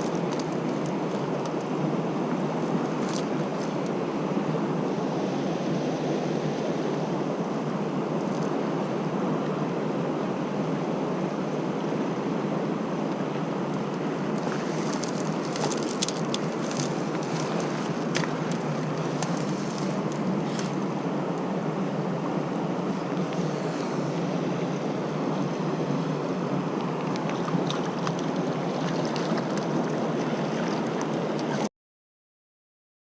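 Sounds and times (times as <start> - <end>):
stream water rushing: 0.0 - 31.7.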